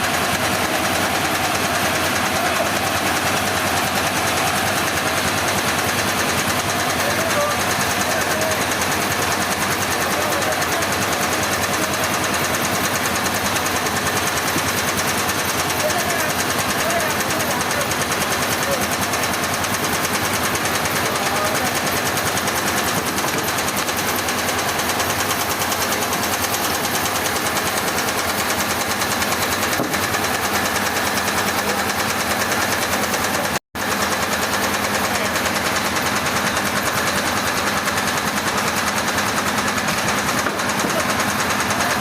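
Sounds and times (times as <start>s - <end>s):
sawmill machinery running: 0.0s - 42.0s.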